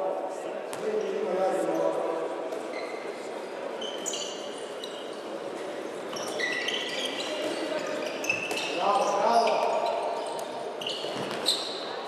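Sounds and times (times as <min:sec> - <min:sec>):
ball bouncing in a hall: 0:00.6 - 0:03.2, 0:03.9 - 0:12.0
shoes squeaking on hall floor: 0:00.7 - 0:12.0.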